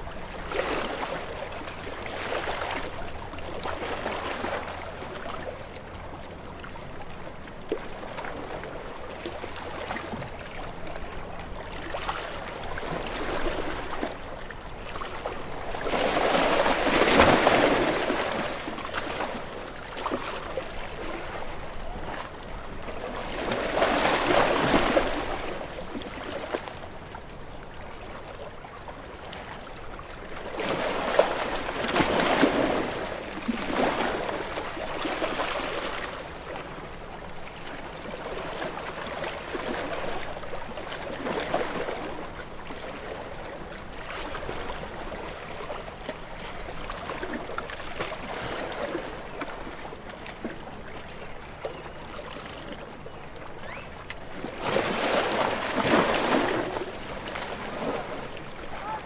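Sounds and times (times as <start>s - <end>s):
small waves washing onto shore: 0.0s - 53.0s, 53.7s - 59.0s.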